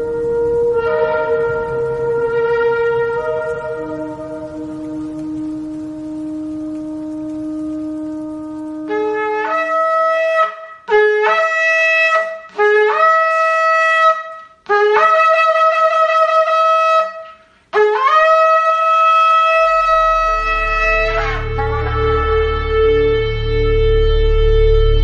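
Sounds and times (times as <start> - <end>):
low steady music bed: 0.0 - 25.0
shofar blasts: 0.0 - 25.0.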